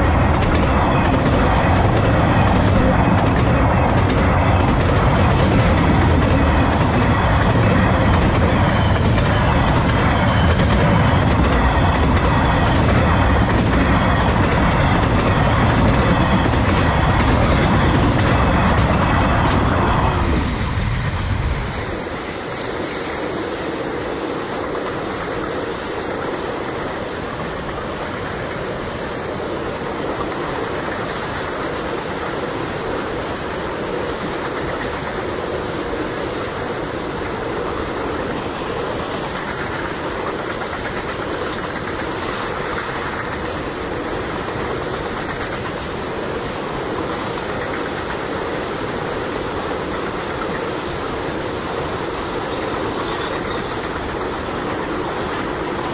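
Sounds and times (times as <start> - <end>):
steel wheels rumbling on rail: 0.0 - 55.9.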